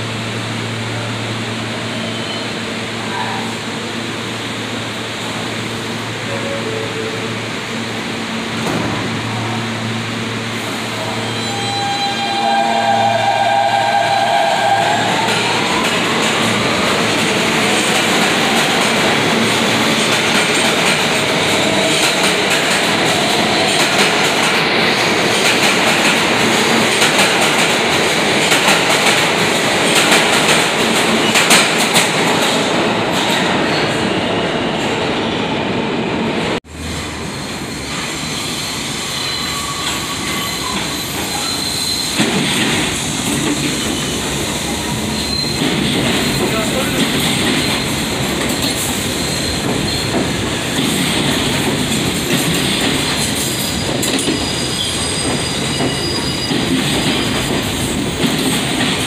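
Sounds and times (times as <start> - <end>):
train rail and wheel noise: 0.0 - 59.0.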